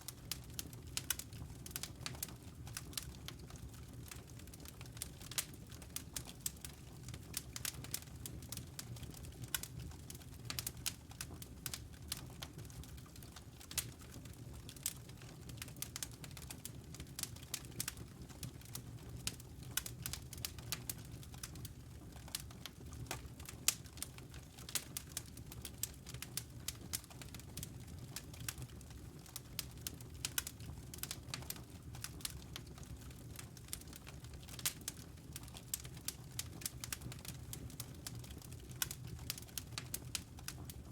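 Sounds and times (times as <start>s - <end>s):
wood fire crackling: 0.0s - 40.9s
low rumble of flames: 0.1s - 40.9s.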